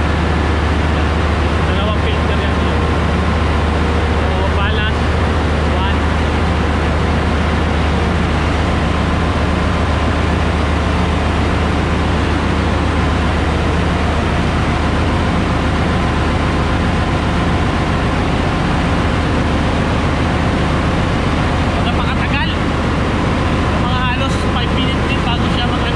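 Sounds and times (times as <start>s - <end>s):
engine-room machinery drone: 0.0s - 25.9s.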